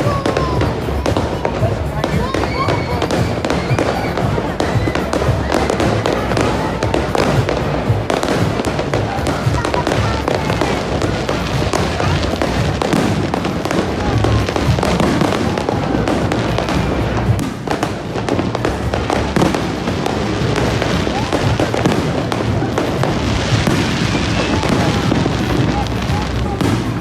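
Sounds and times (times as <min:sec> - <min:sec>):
fireworks bangs: 0:00.0 - 0:27.0
fireworks crackling and popping: 0:00.0 - 0:27.0.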